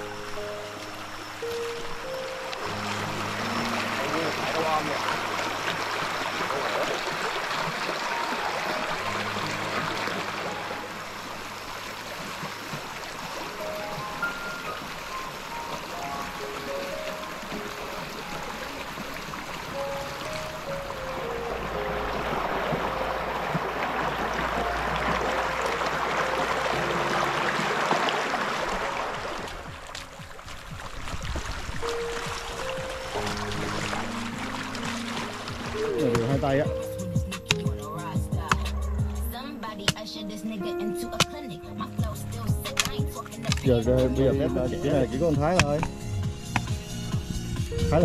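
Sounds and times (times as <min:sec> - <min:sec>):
stream running over rocks: 0:00.0 - 0:48.0.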